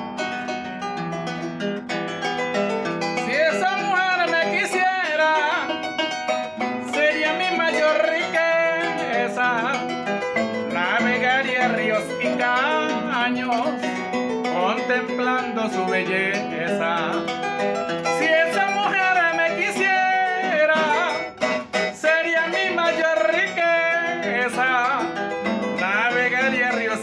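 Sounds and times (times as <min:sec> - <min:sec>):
harp playing: 0:00.0 - 0:26.0.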